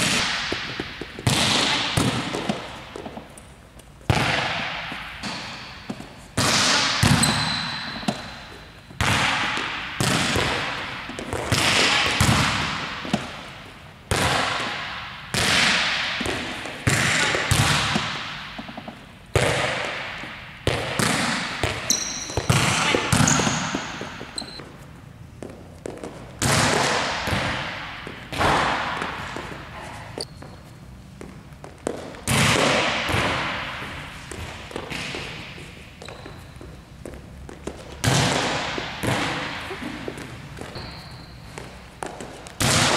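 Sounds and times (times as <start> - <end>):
volleyball smacks echoing in gym: 0.0 - 24.7, 25.4 - 30.3, 31.2 - 42.9.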